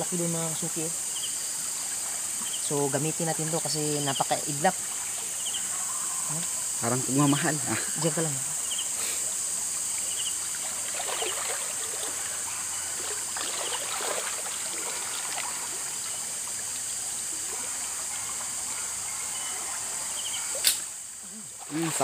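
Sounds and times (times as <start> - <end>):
insect chirps: 0.0 - 22.0.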